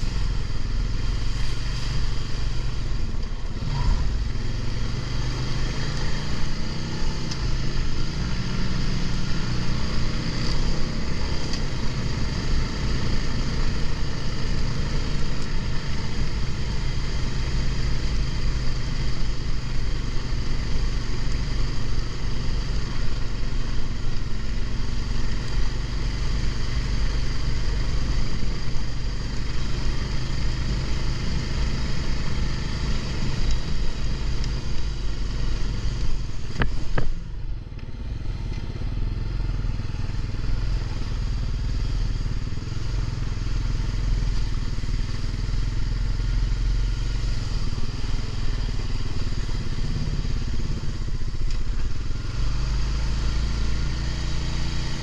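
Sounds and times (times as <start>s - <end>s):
quad bike engine rumbling: 0.0s - 55.0s.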